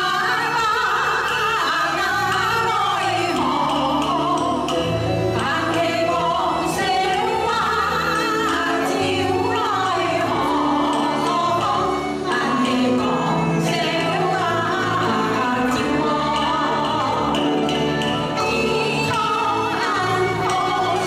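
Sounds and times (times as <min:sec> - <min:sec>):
traditional instrumental ensemble: 0:00.0 - 0:21.0.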